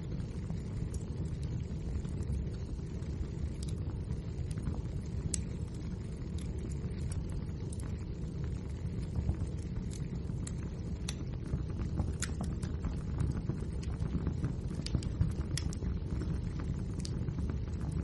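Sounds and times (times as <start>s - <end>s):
low rumble of burning logs: 0.0s - 18.0s
wood fire pops and snaps: 0.0s - 18.0s.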